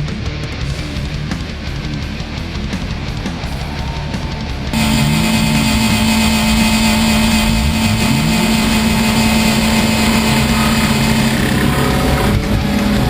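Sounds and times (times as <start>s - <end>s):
car engines revving: 0.7s - 13.0s.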